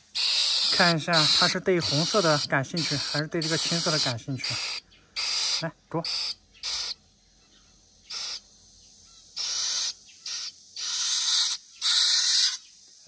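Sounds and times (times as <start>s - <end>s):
bird harsh hissing begging calls: 0.0s - 13.0s.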